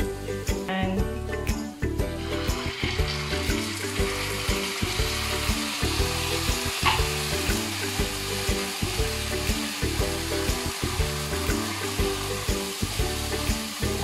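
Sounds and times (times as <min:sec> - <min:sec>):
background music with beat: 0:00.0 - 0:14.0
fish sizzling in a frying pan: 0:02.2 - 0:14.0.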